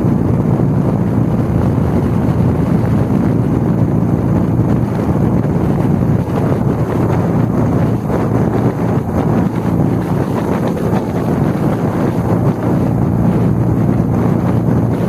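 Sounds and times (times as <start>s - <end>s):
motorcycle engine rumble: 0.0s - 15.0s
wind rushing over microphone: 0.0s - 15.0s.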